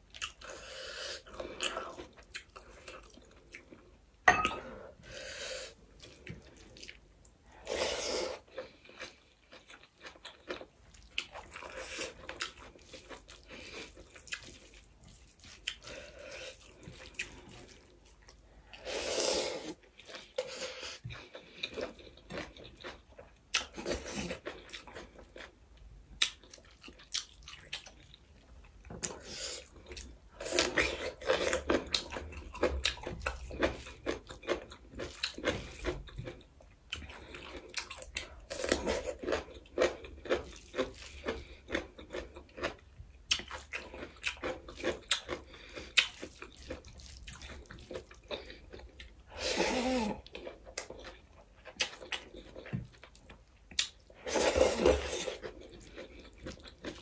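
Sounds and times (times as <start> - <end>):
person chewing and crunching food: 0.0 - 57.0.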